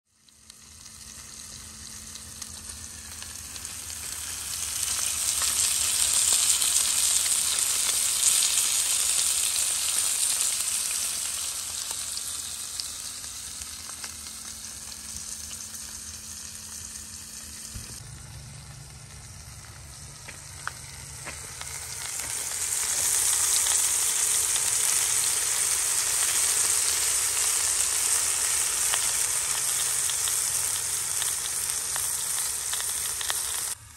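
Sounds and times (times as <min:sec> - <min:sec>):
bacon sizzling in a skillet: 0:00.1 - 0:33.9
chicken searing in a pot: 0:00.1 - 0:33.9.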